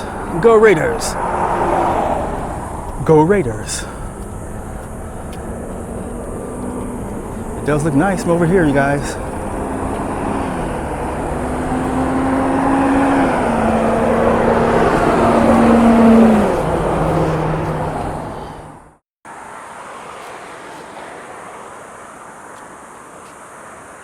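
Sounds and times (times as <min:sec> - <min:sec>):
steady traffic noise: 0:00.0 - 0:24.0
vehicle passing close: 0:00.0 - 0:24.0.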